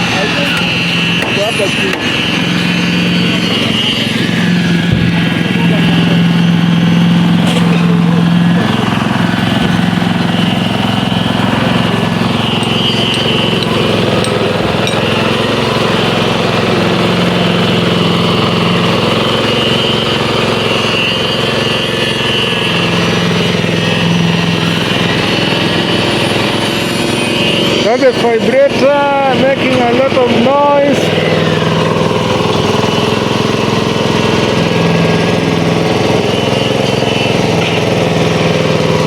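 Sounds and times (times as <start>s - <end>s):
concrete vibrator humming: 0.0s - 39.0s.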